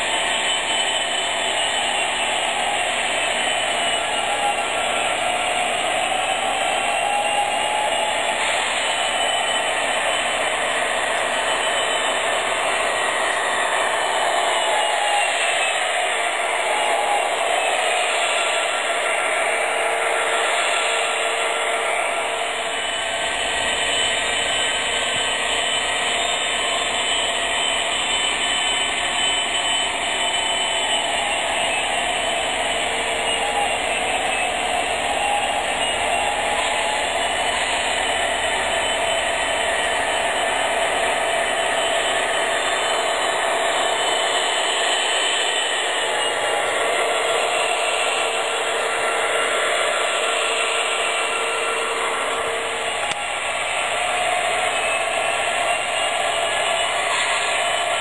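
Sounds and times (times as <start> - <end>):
model locomotive diesel engine sound: 0.0 - 58.0.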